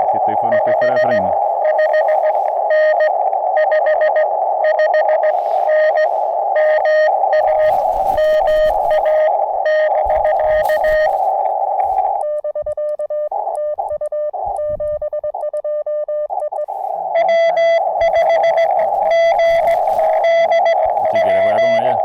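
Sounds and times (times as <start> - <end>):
radio band hiss: 0.0 - 12.2, 16.6 - 22.0
morse code tones: 0.0 - 22.0.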